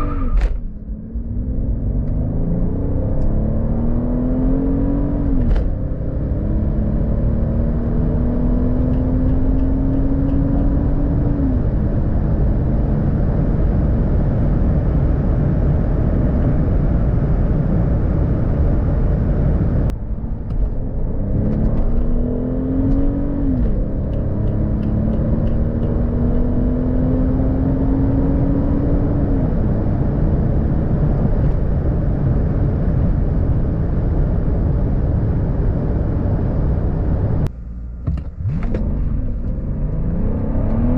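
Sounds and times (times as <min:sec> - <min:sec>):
car engine accelerating hard: 0:00.0 - 0:40.9
road and wind noise: 0:00.0 - 0:40.9.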